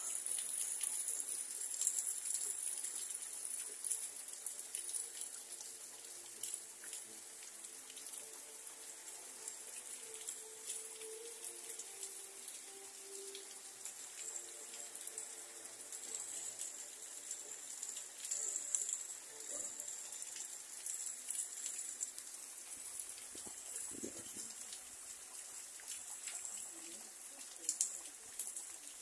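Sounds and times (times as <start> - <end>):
rain hissing: 0.0 - 25.3
water drips ticking: 0.0 - 29.0.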